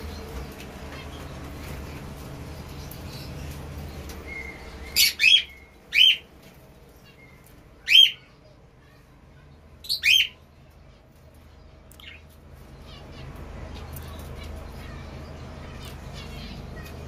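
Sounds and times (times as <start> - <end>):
caged birds chirping shrilly: 0.0 - 17.0.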